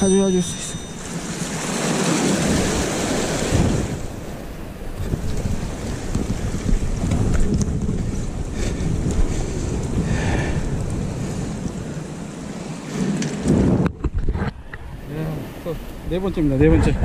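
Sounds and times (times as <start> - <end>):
surf washing against rocks: 0.0 - 17.0
wind rumbling on microphone: 0.0 - 17.0.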